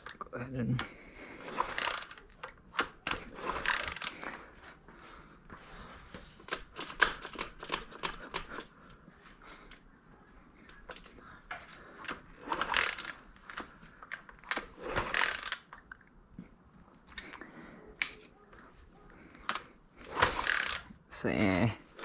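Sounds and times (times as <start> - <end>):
tools clicking and scraping: 0.0 - 4.8, 6.1 - 9.0, 10.6 - 21.0.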